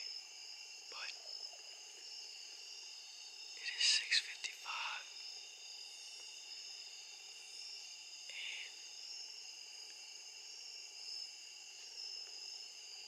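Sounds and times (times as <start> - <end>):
insects trilling: 0.0 - 13.0
soft hiss: 0.0 - 13.0.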